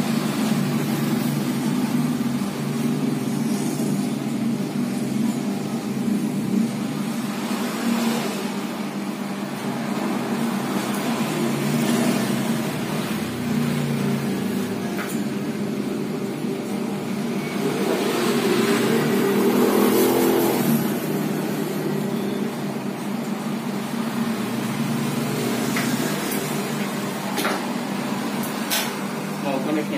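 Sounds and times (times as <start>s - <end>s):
steady engine hum: 0.0s - 29.9s.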